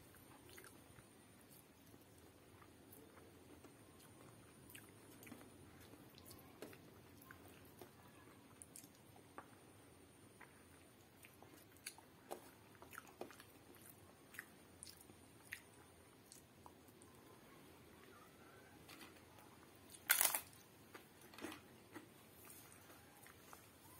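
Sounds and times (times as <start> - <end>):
chewing soft food: 0.1 - 23.9.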